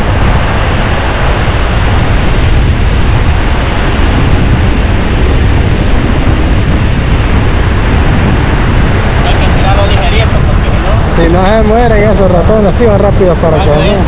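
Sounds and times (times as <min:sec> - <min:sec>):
ocean surf washing: 0:00.0 - 0:14.0
strong wind buffeting microphone: 0:00.0 - 0:14.0.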